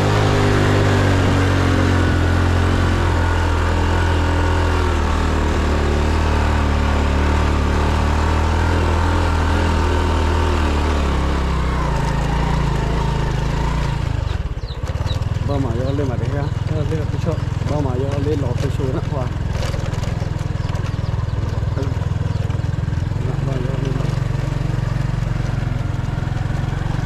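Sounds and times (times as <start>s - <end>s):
small motorcycle engine running: 0.0s - 27.0s
wind and road noise: 0.0s - 27.0s.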